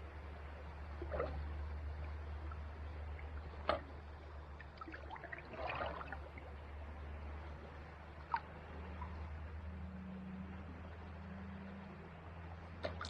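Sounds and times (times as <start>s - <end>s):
paddle splashing water: 0.0s - 9.7s, 10.5s - 13.0s
steady low hum: 0.0s - 13.0s.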